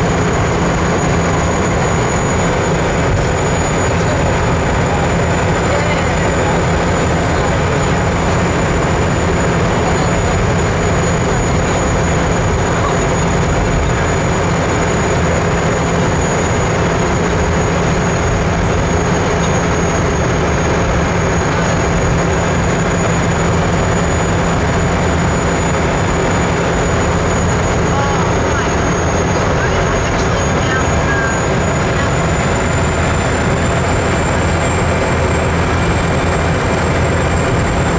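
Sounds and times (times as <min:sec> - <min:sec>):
high-pitched whine: 0:00.0 - 0:37.9
vehicle engine and road noise: 0:00.0 - 0:37.9.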